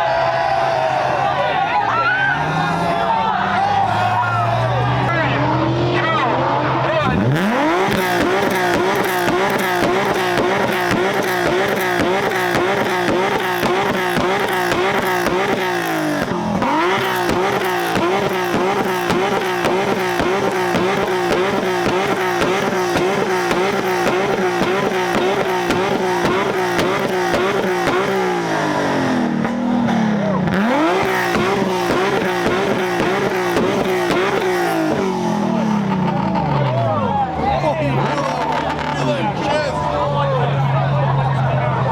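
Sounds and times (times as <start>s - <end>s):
car engine bouncing off rev limiter: 0.0s - 41.9s.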